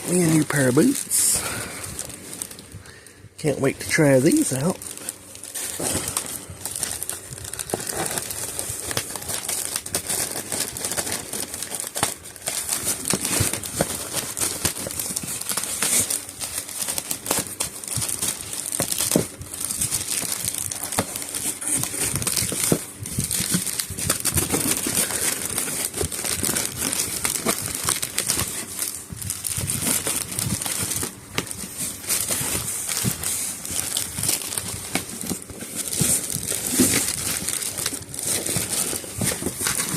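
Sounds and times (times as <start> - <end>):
packaging crinkling: 0.0 - 39.9.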